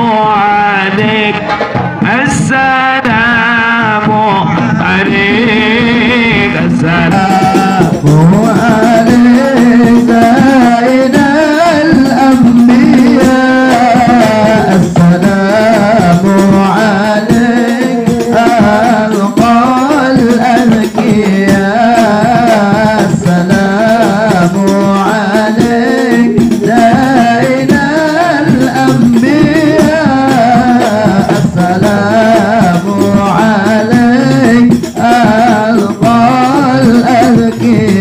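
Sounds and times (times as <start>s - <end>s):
devotional singing: 0.0s - 38.0s
frame drums beating: 0.0s - 38.0s.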